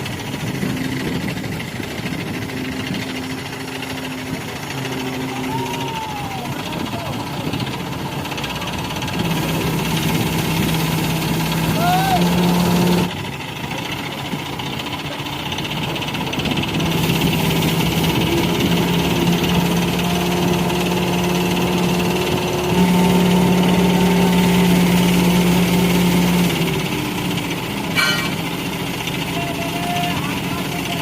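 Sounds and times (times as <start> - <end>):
engine humming: 0.0 - 31.0.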